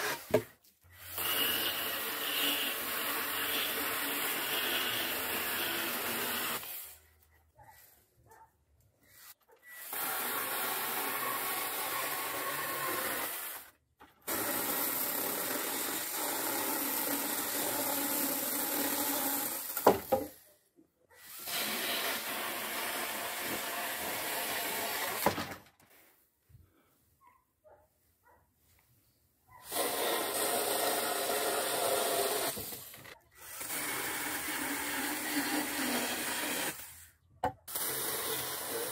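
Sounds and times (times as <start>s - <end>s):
chainsaw cutting wooden poles: 0.0s - 7.1s, 9.6s - 20.4s, 21.2s - 25.8s, 29.6s - 38.9s.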